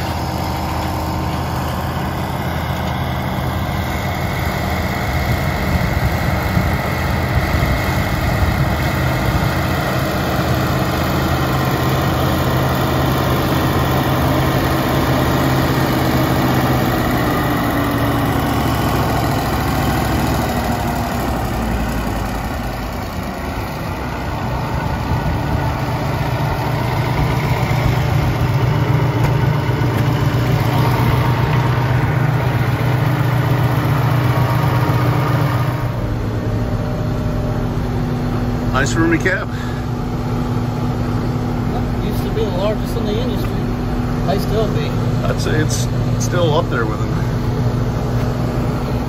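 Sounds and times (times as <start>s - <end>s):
diesel engine droning: 0.0s - 49.0s.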